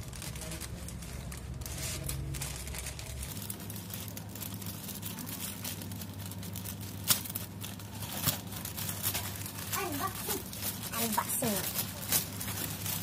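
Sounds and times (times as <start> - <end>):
plastic being torn open: 0.0 - 13.0
plastic mailer crinkling: 0.0 - 13.0.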